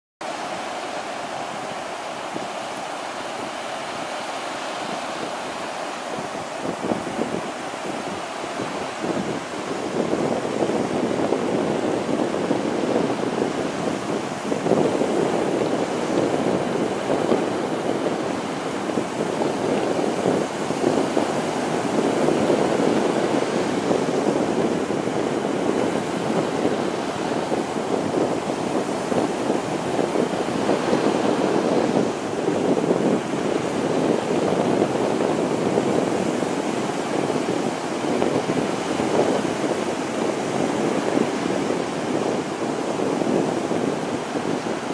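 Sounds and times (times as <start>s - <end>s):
waves washing onto sand: 0.2s - 44.9s
wind on microphone: 0.2s - 44.9s.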